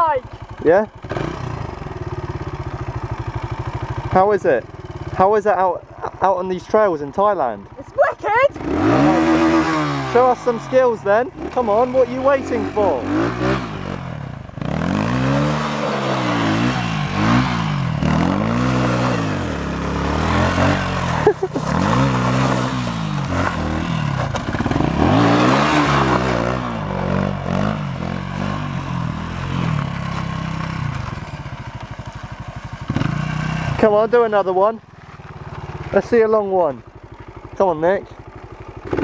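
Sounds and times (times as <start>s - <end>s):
motocross bike engine revving: 0.0s - 31.6s, 32.6s - 39.0s.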